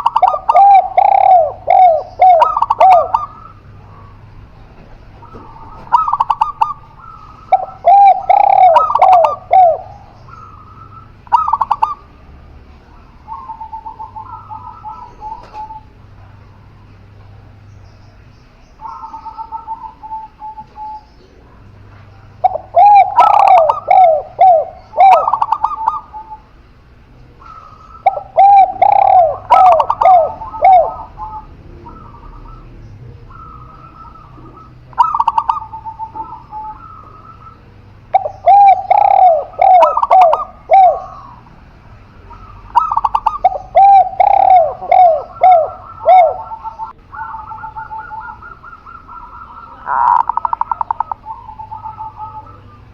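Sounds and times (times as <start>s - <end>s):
doves cooing: 0.0s - 52.9s.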